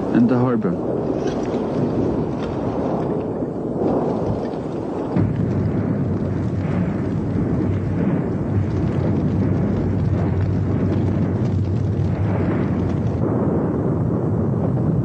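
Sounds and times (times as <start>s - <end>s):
volcanic eruption rumble: 0.0s - 15.0s.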